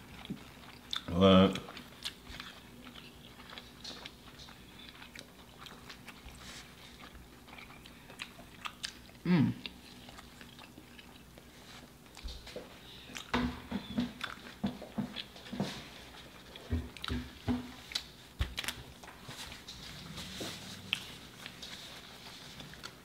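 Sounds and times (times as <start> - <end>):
chewing with mouth smacks: 0.0 - 19.2, 20.4 - 23.0.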